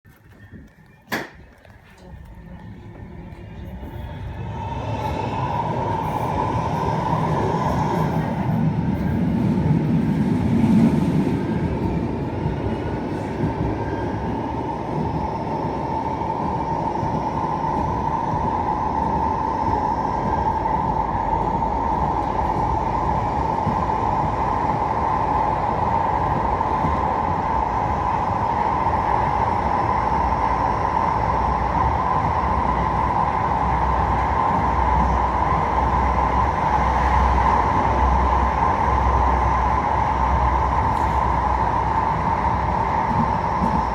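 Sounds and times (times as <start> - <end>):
wheels rumbling on rail: 0.1 - 43.9
tram electric drive whine: 0.3 - 43.9.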